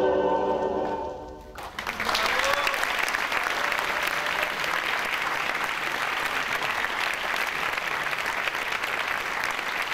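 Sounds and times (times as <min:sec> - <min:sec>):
audience applauding: 0:01.5 - 0:09.9.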